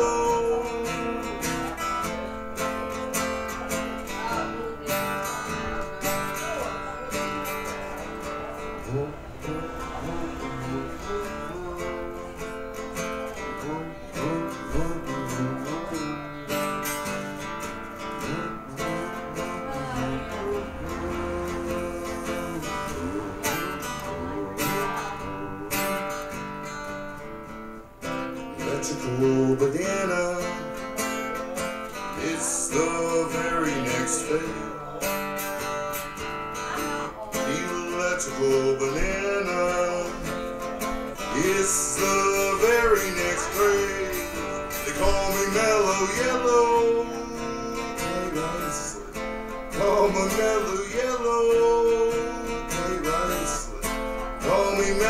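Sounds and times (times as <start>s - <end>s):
strummed acoustic guitar: 0.0s - 55.0s.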